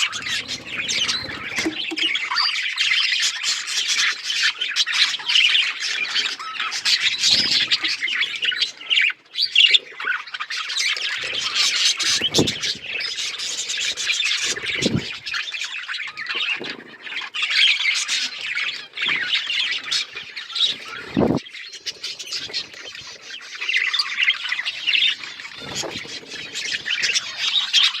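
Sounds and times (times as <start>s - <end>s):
budgerigars chattering and squawking: 0.0s - 28.0s.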